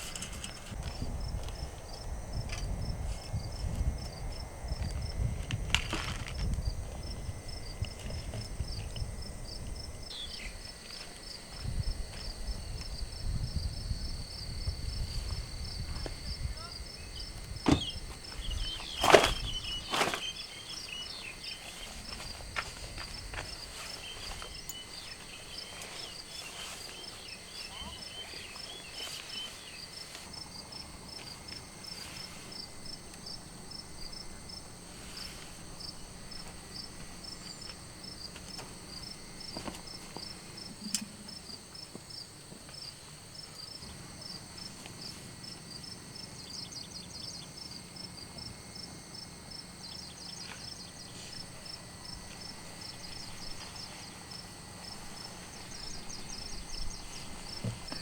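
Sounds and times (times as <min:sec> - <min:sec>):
crickets chirping: 0:00.0 - 0:58.0
high insect whine: 0:00.0 - 0:58.0
short rapid insect trills: 0:00.0 - 0:58.0.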